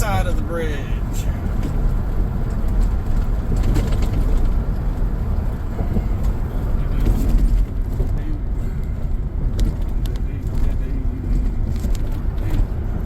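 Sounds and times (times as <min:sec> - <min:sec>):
truck road and engine rumble: 0:00.0 - 0:13.0.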